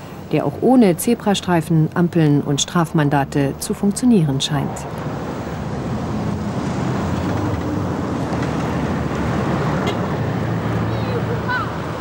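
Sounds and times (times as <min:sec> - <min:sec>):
road noise hum: 0:00.0 - 0:12.0
vehicle engines running: 0:00.0 - 0:12.0.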